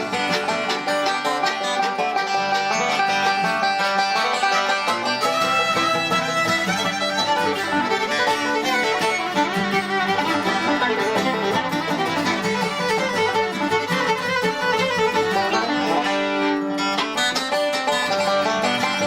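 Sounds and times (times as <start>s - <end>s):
bluegrass music with banjo and fiddle: 0.0s - 19.0s.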